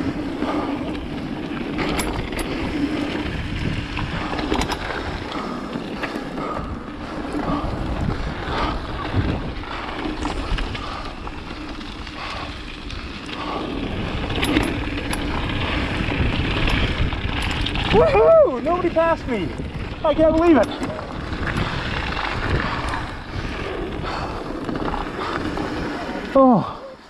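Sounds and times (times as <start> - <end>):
bike rattling clicks: 0.0 - 26.4
wind buffeting microphone: 0.0 - 26.7
bike tyres over dirt and rock: 0.0 - 27.0.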